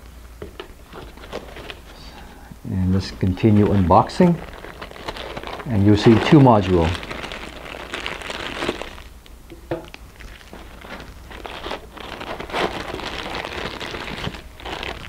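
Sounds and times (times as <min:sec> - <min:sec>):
plastic bags crinkling: 0:00.8 - 0:02.2, 0:03.0 - 0:09.2, 0:10.0 - 0:15.0.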